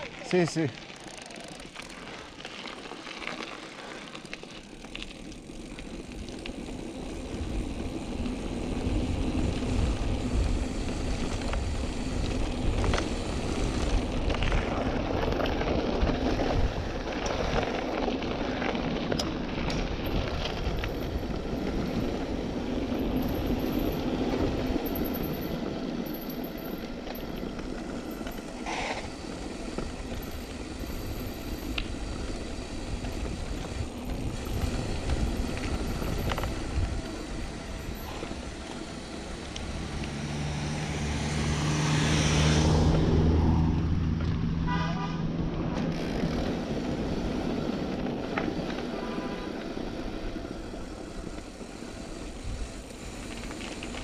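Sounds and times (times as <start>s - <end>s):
bicycle tyres rolling: 0.0s - 54.0s.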